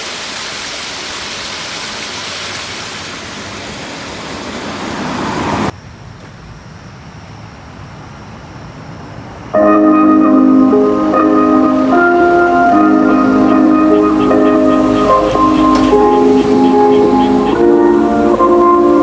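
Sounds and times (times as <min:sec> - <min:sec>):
faint hiss: 0:00.0 - 0:19.0
steady outdoor noise: 0:00.0 - 0:19.0.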